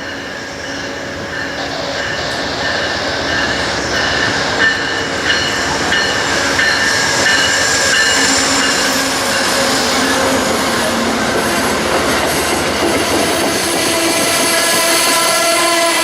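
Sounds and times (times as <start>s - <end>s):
train wheels rolling on rail: 0.0s - 16.0s.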